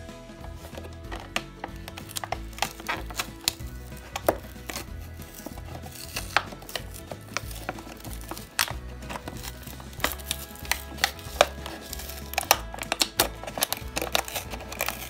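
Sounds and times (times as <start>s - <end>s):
plastic packaging crackling: 0.5s - 15.0s.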